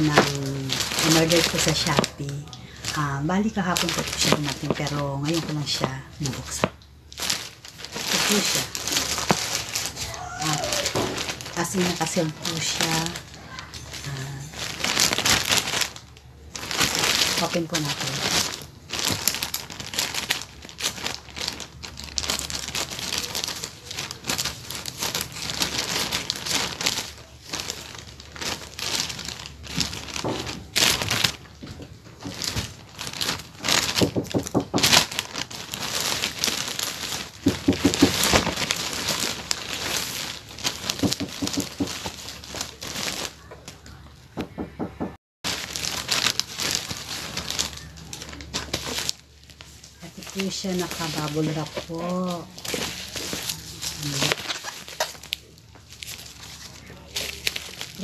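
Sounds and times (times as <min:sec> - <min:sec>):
plastic packaging tearing and crinkling: 0:00.0 - 0:44.0, 0:45.4 - 0:58.0.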